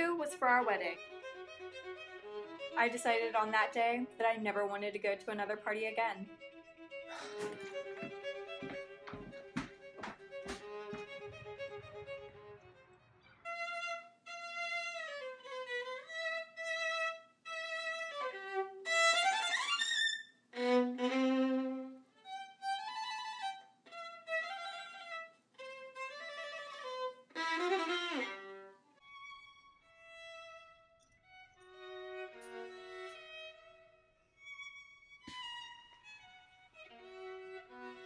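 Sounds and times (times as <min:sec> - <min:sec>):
solo violin: 0:00.0 - 0:04.2, 0:05.9 - 0:38.0.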